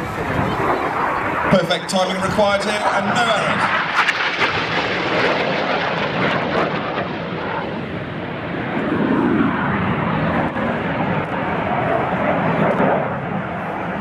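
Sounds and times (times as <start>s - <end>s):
jets flying overhead: 0.0s - 14.0s.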